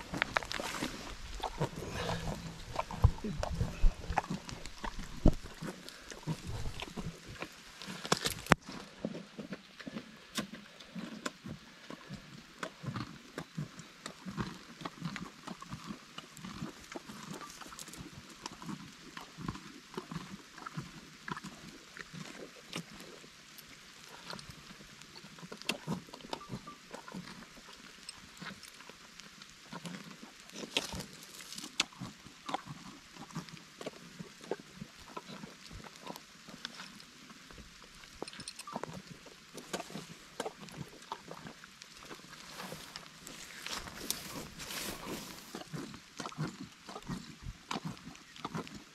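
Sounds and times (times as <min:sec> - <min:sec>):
donkeys chewing watermelon: 0:00.0 - 0:48.9.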